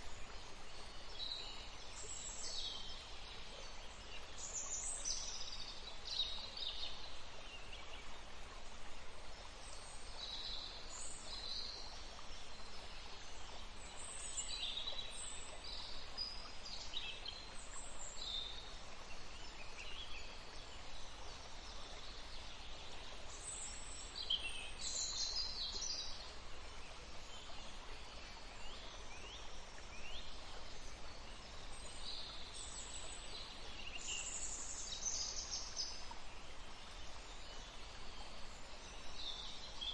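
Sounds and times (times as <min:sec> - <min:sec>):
songbirds singing and chirping: 0:00.0 - 0:39.9
steady background hiss: 0:00.0 - 0:39.9.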